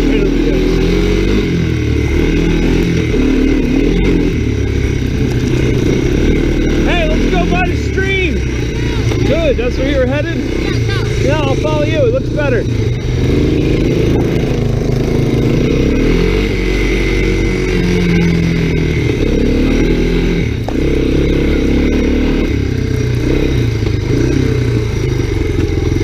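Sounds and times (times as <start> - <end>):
three-wheeler engine running: 0.0 - 26.0.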